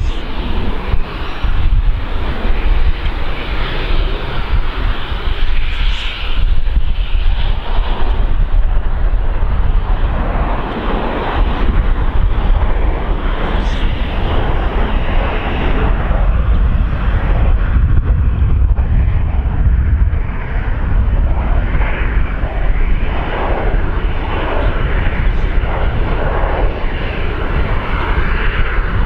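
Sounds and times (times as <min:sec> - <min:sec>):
jet engines rumbling on approach: 0:00.0 - 0:29.0.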